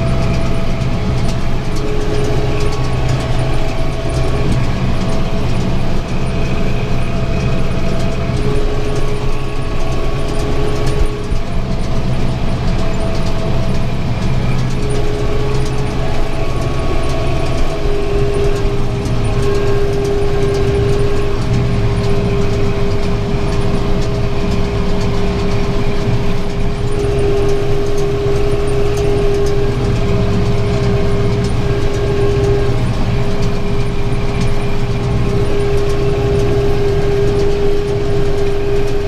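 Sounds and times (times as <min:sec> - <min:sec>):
steady whine: 0:00.0 - 0:39.0
tractor engine droning: 0:00.0 - 0:39.0.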